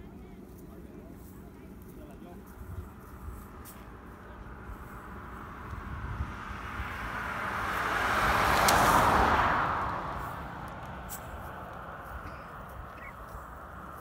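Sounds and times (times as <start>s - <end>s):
vehicle passing by: 2.8s - 14.0s.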